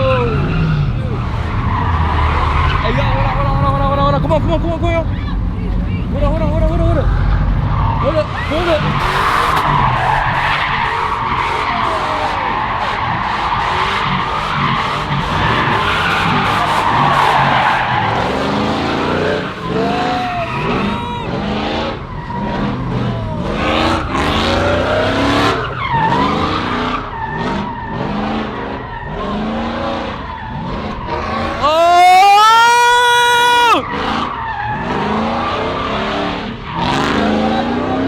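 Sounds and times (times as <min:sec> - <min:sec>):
truck engine revving: 0:00.0 - 0:31.7, 0:33.3 - 0:38.0
tires squealing: 0:00.0 - 0:38.0.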